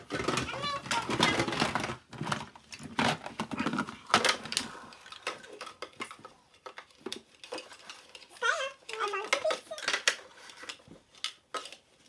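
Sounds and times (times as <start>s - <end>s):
plastic toys clattering: 0.0s - 12.0s.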